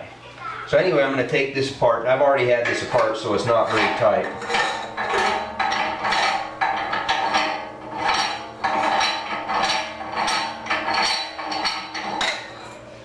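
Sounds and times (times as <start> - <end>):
metal scraping and clinking: 2.4 - 13.0.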